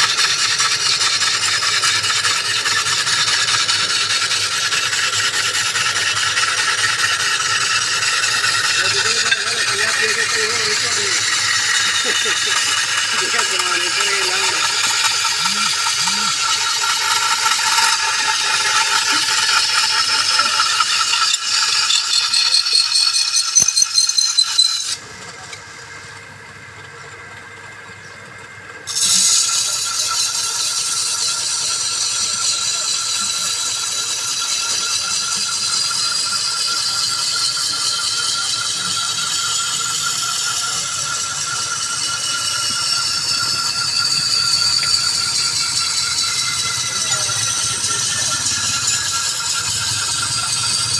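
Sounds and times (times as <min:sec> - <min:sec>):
workshop machine rattling: 0:00.0 - 0:26.1, 0:28.9 - 0:50.9.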